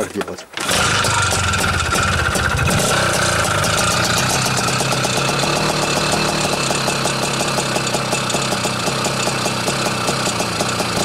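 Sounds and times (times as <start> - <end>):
two-stroke motorcycle engine idling: 0.6 - 11.0.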